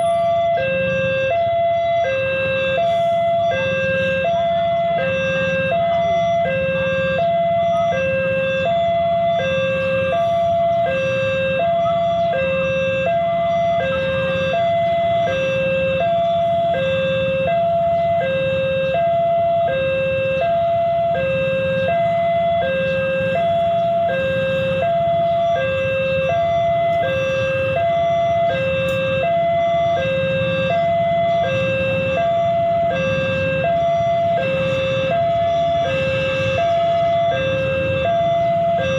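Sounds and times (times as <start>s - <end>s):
idling engines rumble: 0.0s - 38.9s.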